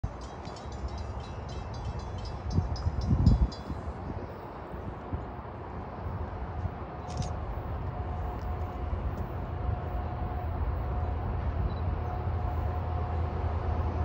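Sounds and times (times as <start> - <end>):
freight train rumble: 0.1 - 14.0.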